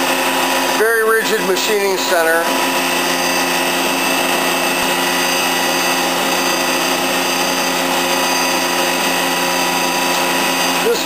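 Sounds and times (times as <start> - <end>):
machine hum: 0.0 - 11.0
machine spindle whining: 0.0 - 11.0.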